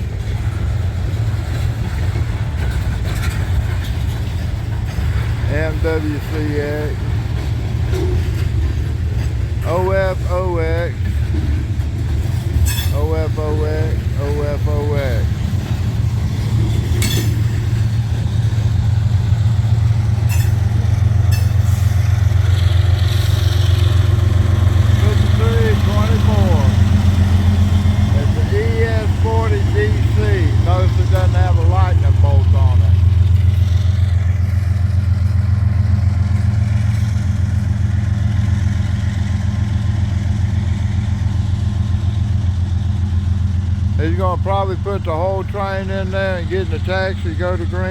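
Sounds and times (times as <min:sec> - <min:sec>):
metallic rings from train wheels: 0:00.0 - 0:40.4
locomotive engine drone: 0:00.0 - 0:47.9.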